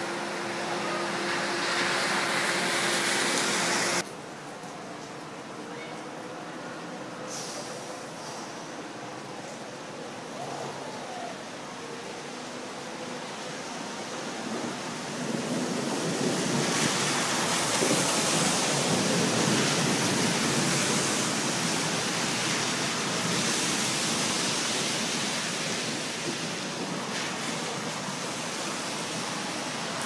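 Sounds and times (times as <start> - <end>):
heavy rain pouring: 0.0 - 4.6, 5.2 - 30.0.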